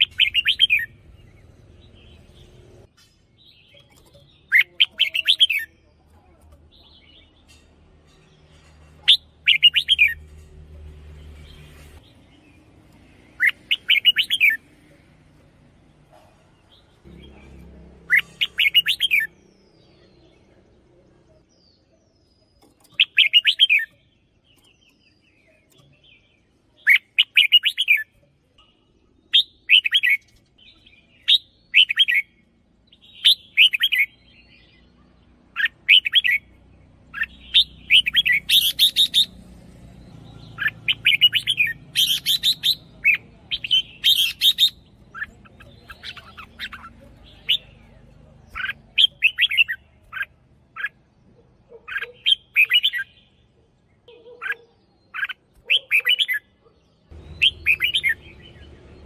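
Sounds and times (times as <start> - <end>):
bird singing warbled phrases: 0.0 - 59.0.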